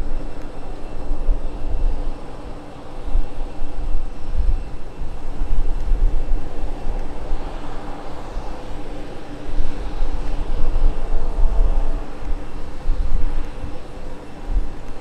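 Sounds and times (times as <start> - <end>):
jet engines whining: 0.0 - 15.0
wind rumble on microphone: 0.0 - 15.0.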